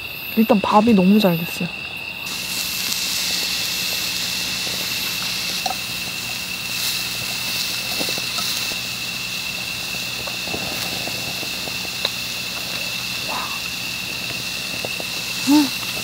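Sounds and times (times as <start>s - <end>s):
night insects chirring: 0.0s - 16.0s.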